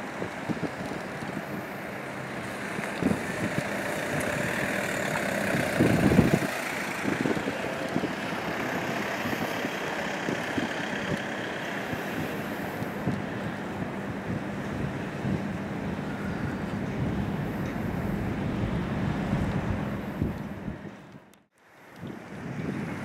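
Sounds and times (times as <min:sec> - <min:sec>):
outboard engine running: 0:00.0 - 0:21.4
wind rumble on microphone: 0:00.0 - 0:23.0.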